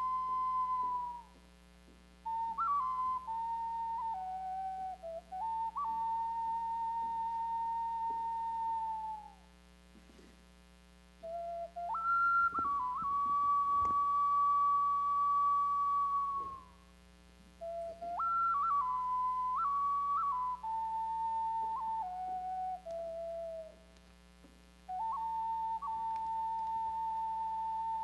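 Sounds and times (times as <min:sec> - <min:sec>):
solo flute melody: 0:00.0 - 0:01.4, 0:02.2 - 0:09.5, 0:11.2 - 0:16.9, 0:17.6 - 0:24.0, 0:24.8 - 0:28.0.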